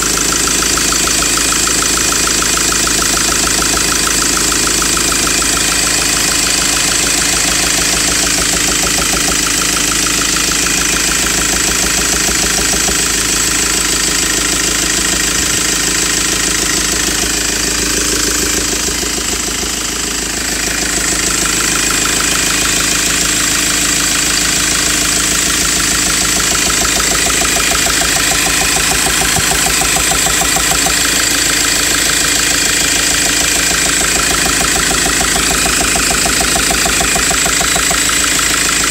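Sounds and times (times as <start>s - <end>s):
engine idling with knock: 0.0s - 38.9s.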